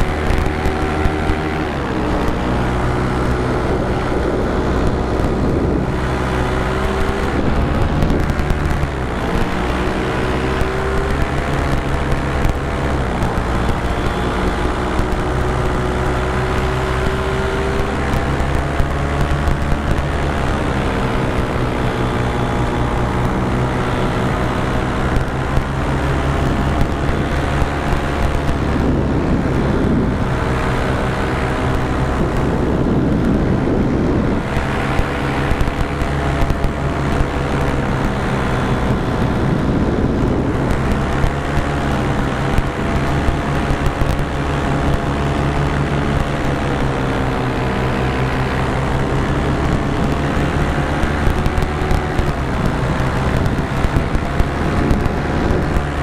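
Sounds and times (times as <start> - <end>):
paramotor engine and propeller: 0.0 - 56.0.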